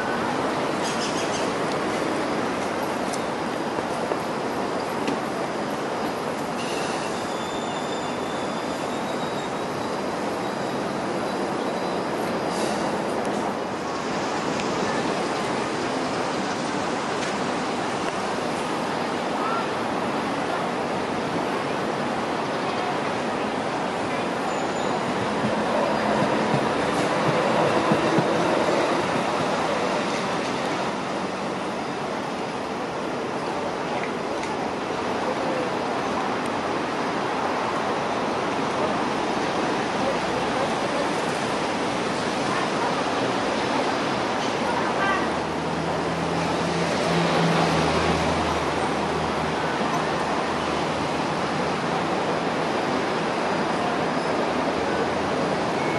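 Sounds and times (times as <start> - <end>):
city background noise: 0.0 - 55.9
light rail car rumbling on track: 0.0 - 55.9
outdoor ambient noise: 0.0 - 55.9.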